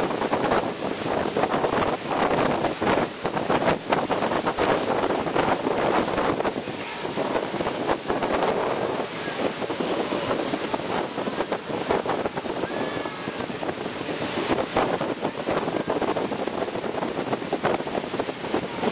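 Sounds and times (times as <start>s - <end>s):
motorboat running at speed: 0.0s - 18.9s
water splashing along hull: 0.0s - 18.9s
wind buffeting microphone: 0.0s - 18.9s.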